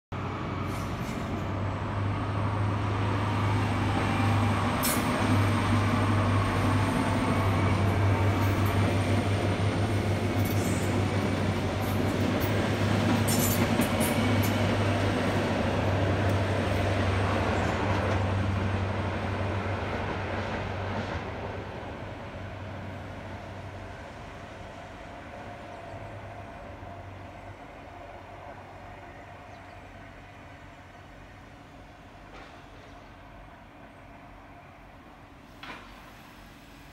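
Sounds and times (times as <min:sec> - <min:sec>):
wheels rumbling on rails: 0:00.2 - 0:30.0
diesel train humming: 0:00.2 - 0:36.9.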